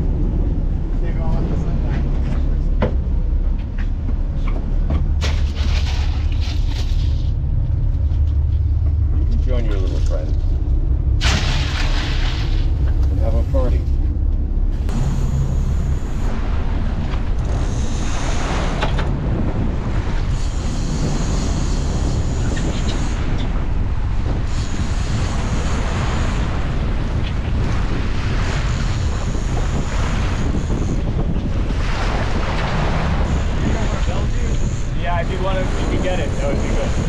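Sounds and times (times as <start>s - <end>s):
boat engines droning: 0.0s - 37.0s
wake and waves rushing: 0.0s - 37.0s
wind buffeting microphone: 0.0s - 37.0s.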